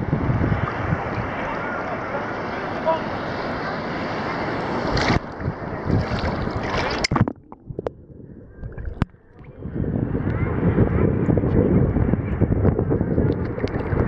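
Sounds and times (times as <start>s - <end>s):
wind on microphone: 0.0s - 2.0s, 2.8s - 14.0s
sea water rushing: 0.0s - 14.0s.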